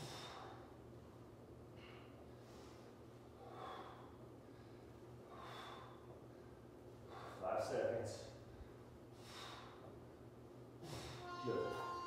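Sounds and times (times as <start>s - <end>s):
low steady hum: 0.0s - 12.0s
man breathing heavily: 0.0s - 12.0s.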